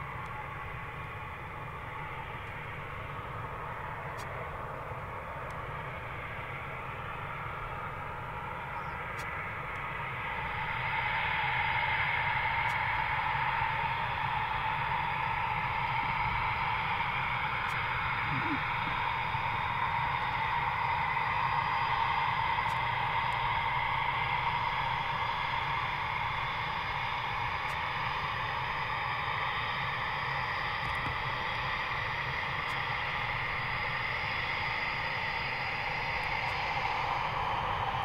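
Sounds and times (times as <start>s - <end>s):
jet engines running: 0.0s - 38.0s.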